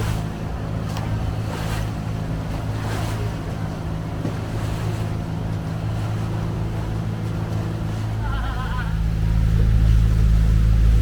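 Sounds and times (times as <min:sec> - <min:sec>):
boat engine humming: 0:00.0 - 0:11.0
water rushing along hull: 0:00.0 - 0:11.0.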